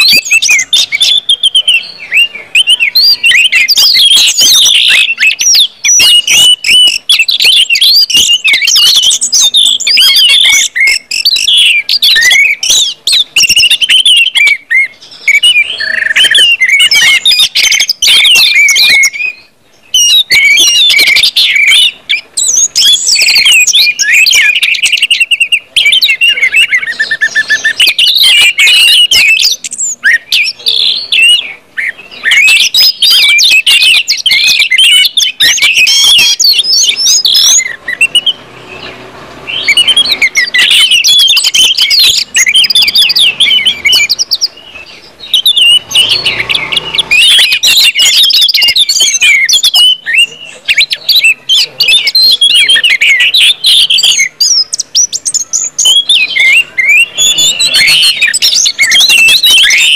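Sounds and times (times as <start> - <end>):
thrush singing whistles and trills: 0.0 - 59.9.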